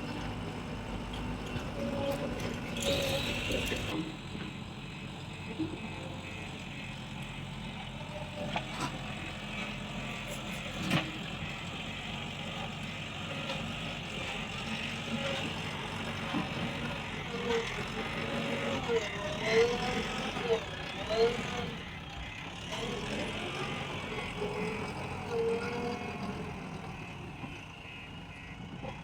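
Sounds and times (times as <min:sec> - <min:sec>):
diesel construction machinery running: 0:00.0 - 0:29.0.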